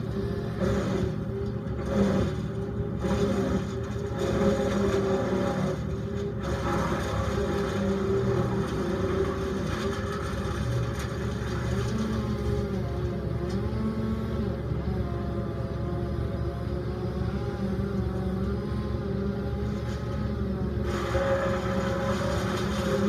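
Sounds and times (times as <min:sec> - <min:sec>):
brush chipper engine running: 0:00.0 - 0:23.0.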